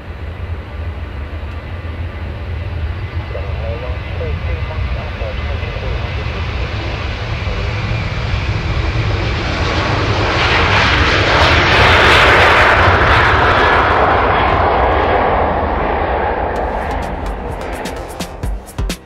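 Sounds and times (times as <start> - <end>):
jet engines: 0.0 - 18.4.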